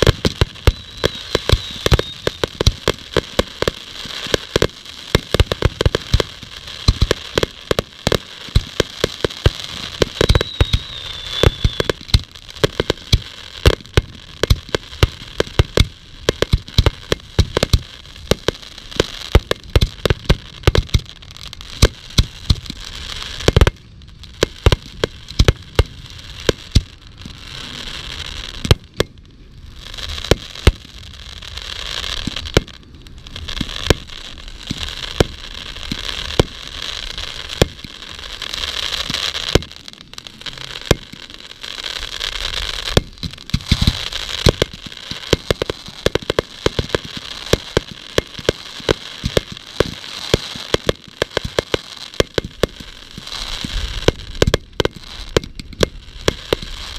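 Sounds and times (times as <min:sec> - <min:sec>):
firework shells bursting: 0:00.0 - 0:27.8, 0:32.2 - 0:56.9
fireworks crackling: 0:00.0 - 0:56.9.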